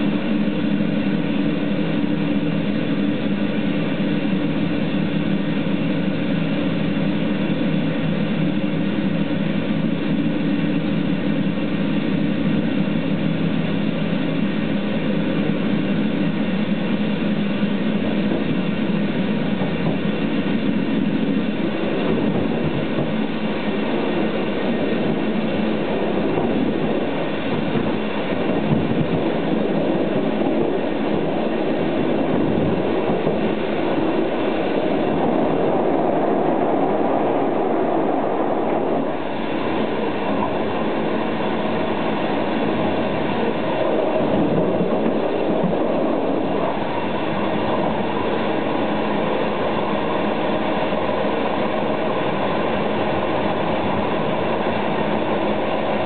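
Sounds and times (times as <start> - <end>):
train coach rumbling on rails: 0.0 - 56.0.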